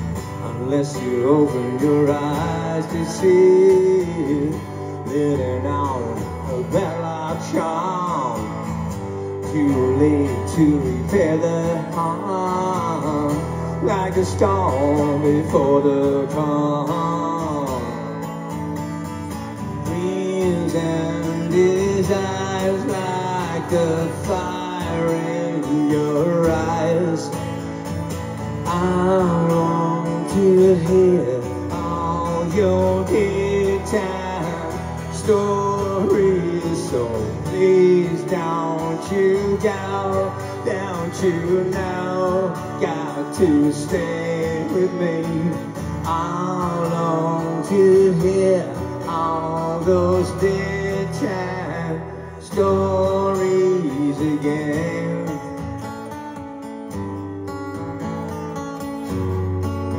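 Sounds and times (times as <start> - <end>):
strummed acoustic guitar: 0.0 - 59.9.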